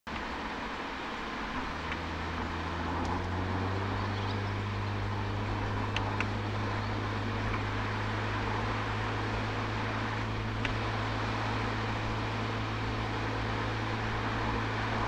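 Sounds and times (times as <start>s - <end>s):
car exhaust drone: 0.1s - 15.0s.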